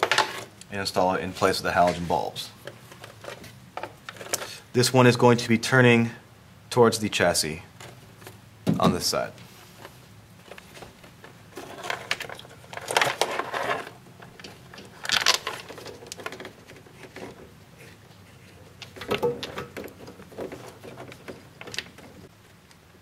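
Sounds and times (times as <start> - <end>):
wires and plastic rustling: 0.0 - 4.8, 7.7 - 23.0.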